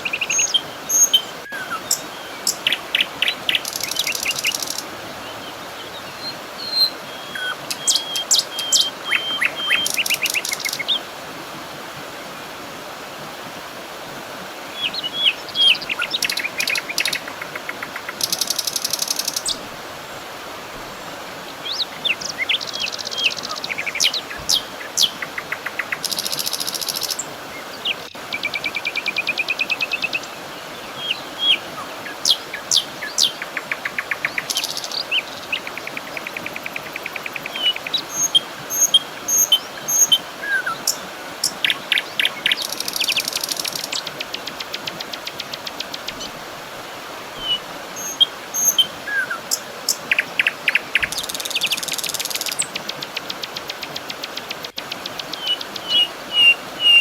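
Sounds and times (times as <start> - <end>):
songbirds chirping and trilling: 0.0 - 11.1, 21.0 - 46.4, 47.4 - 57.0
steady background hiss: 0.0 - 57.0.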